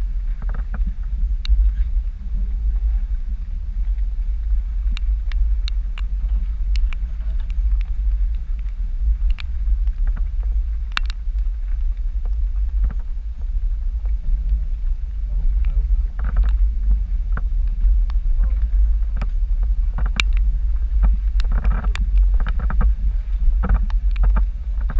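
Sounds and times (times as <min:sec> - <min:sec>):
vehicle rumbling: 0:00.0 - 0:24.9.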